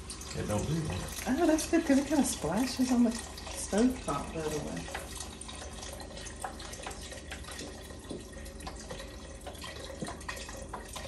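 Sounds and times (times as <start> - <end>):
liquid pouring into pot: 0.0 - 11.0.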